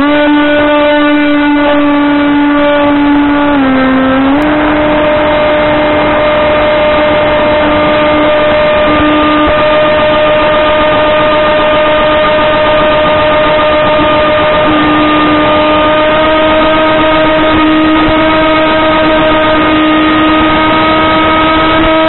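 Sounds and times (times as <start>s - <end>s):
electric motor buzzing whine: 0.0s - 22.0s.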